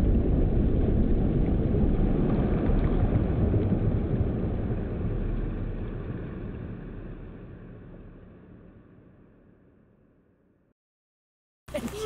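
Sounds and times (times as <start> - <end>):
slowed shotgun blast rumble: 0.0 - 9.9.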